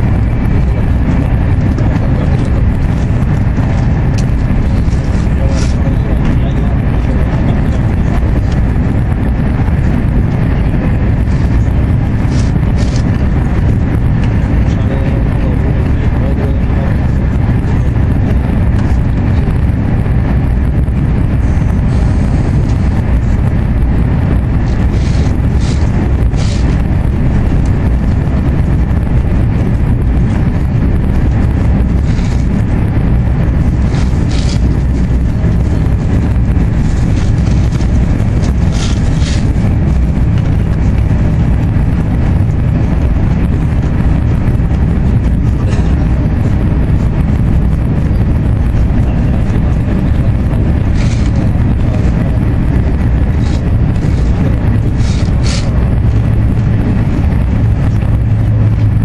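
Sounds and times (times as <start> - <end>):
high-speed train rumble inside cabin: 0.0 - 59.0.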